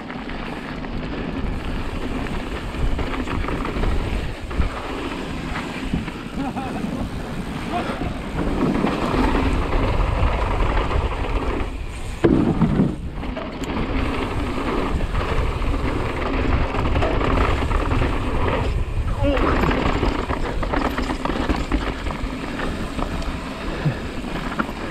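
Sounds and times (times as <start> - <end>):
bike tyre and chassis rattle: 0.0 - 24.9
wind rushing over microphone: 0.0 - 24.9.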